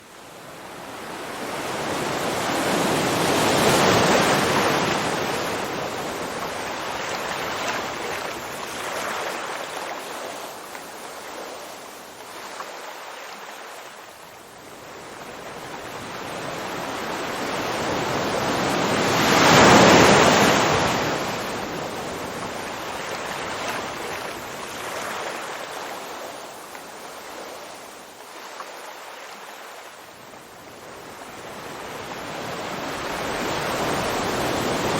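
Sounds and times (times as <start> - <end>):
surf hiss: 0.0 - 34.9
waves crashing: 0.9 - 14.0, 15.1 - 34.9.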